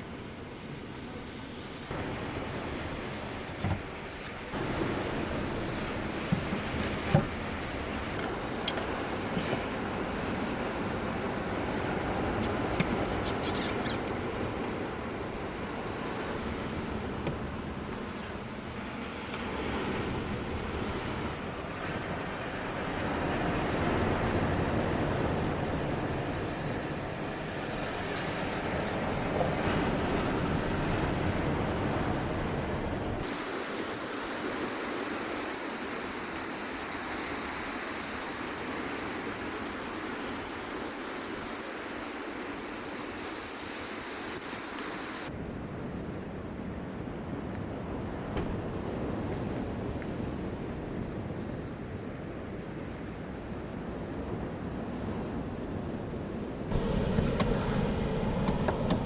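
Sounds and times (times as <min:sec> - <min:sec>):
sea waves washing onto shore: 0:00.0 - 0:52.2, 0:53.9 - 0:59.0.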